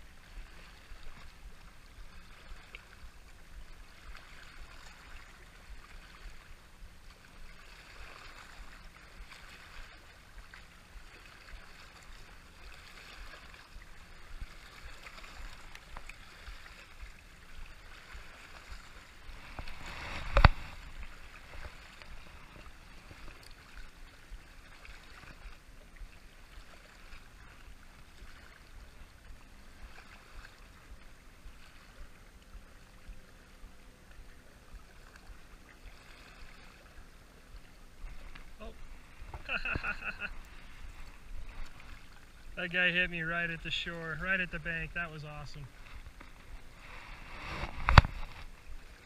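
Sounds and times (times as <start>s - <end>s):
wind rumble on microphone: 0.0s - 42.6s, 45.6s - 49.0s
shoreline water: 0.0s - 49.0s.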